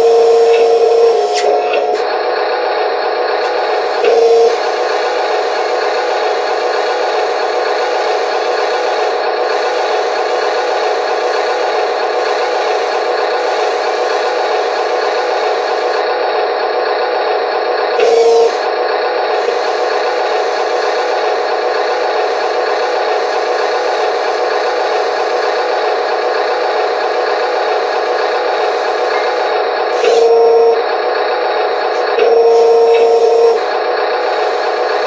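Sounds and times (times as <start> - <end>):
high motor whine: 0.0 - 35.0
rattly gear drive whirring: 0.0 - 35.0.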